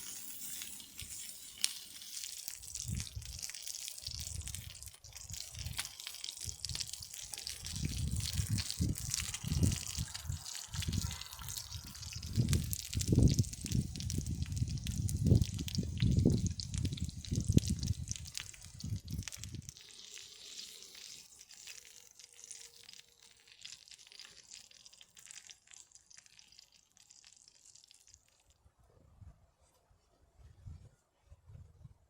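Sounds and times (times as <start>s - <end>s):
pork sizzling on a grill: 0.0s - 28.5s.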